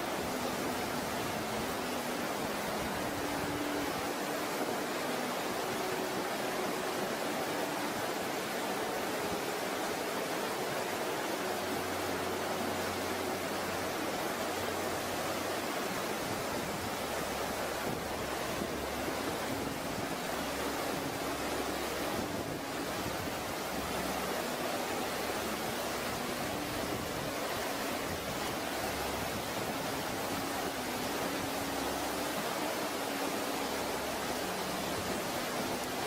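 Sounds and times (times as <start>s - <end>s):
flood water rushing: 0.0s - 36.0s.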